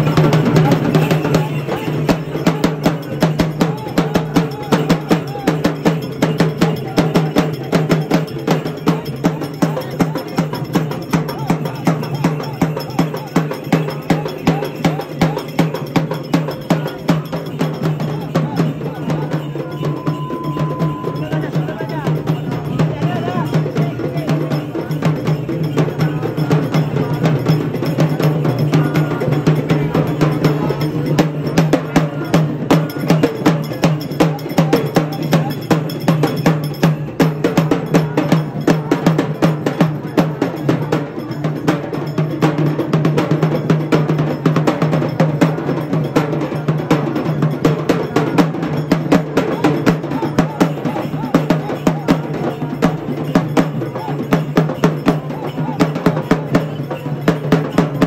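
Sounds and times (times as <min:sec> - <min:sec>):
fast metallic drumming: 0:00.0 - 0:58.0.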